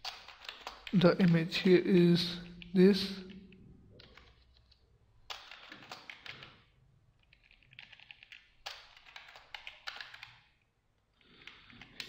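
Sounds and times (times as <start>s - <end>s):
computer keyboard typing: 0.0s - 10.5s, 11.2s - 12.0s.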